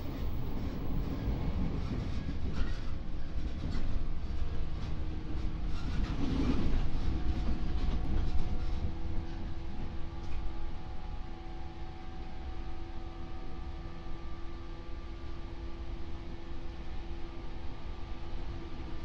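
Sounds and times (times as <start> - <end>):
train rumbling along rails: 0.0 - 19.0.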